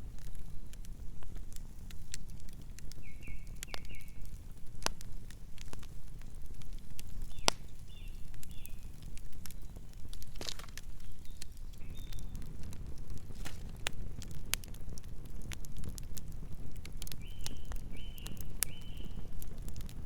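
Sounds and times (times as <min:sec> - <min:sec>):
burning wood crackling and popping: 0:00.0 - 0:20.0
campfire flames rumbling: 0:00.0 - 0:20.0.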